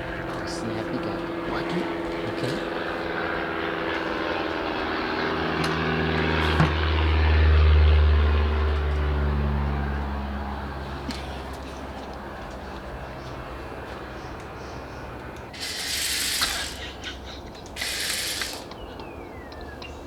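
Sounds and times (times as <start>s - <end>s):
low engine drone passing: 0.0s - 19.4s.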